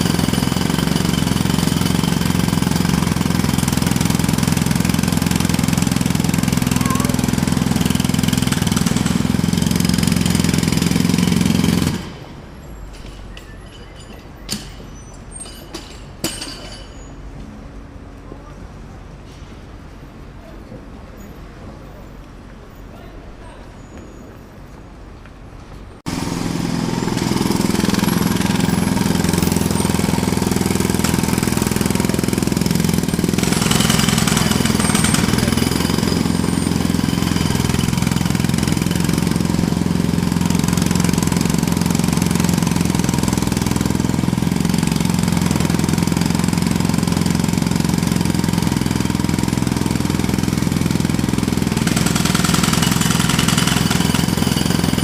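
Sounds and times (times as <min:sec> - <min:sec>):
jackhammer running: 0:00.0 - 0:17.1, 0:26.1 - 0:55.0.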